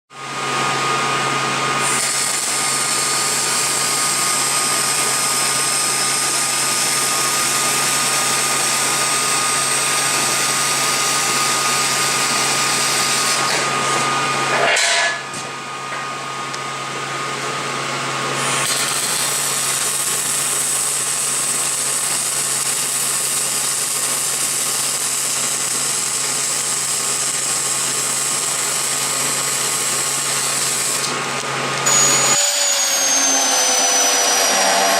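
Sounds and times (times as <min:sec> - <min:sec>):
power tool whining: 0:00.4 - 0:15.2, 0:17.3 - 0:34.9.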